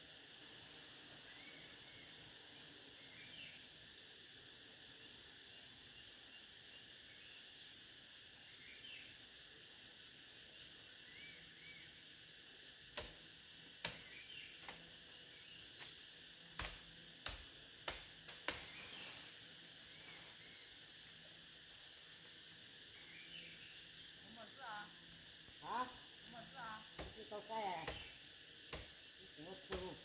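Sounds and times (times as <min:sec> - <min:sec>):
insect drone: 0:00.0 - 0:30.0.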